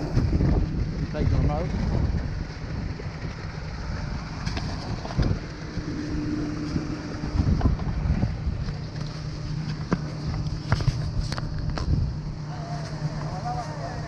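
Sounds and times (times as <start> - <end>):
truck engine running under load: 0.0 - 14.0
wind buffeting microphone: 0.0 - 14.0.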